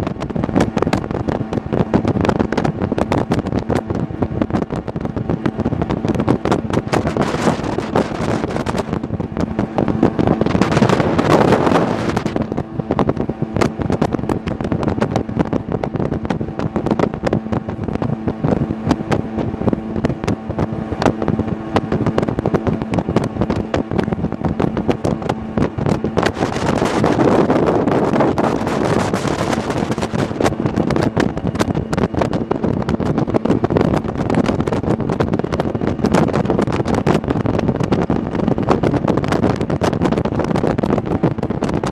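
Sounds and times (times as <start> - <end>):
jet boat engine droning: 0.0 - 41.9
rushing wind and water: 0.0 - 41.9.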